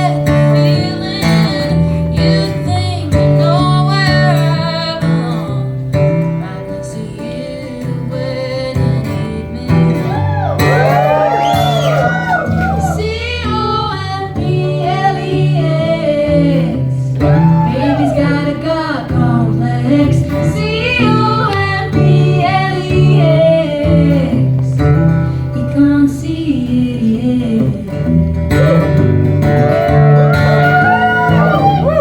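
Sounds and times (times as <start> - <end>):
woman singing: 0.0 - 29.0
rock guitar: 0.0 - 32.0.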